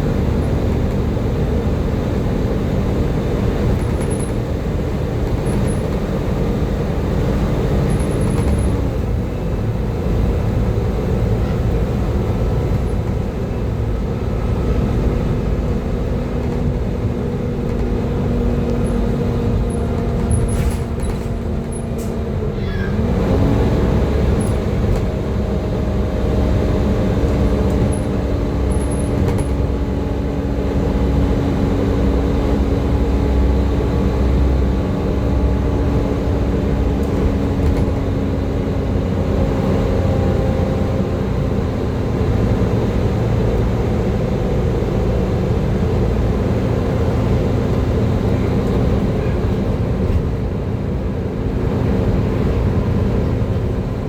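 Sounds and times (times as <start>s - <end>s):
bus diesel engine droning: 0.0s - 54.0s
bus whine: 0.0s - 54.0s.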